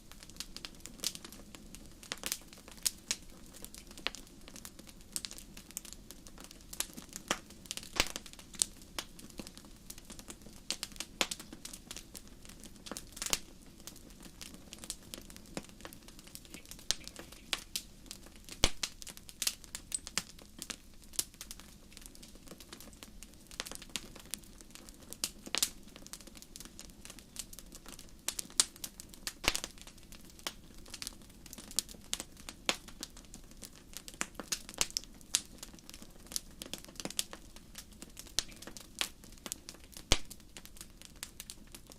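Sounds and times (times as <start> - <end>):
campfire wood crackling and popping: 0.0 - 41.9.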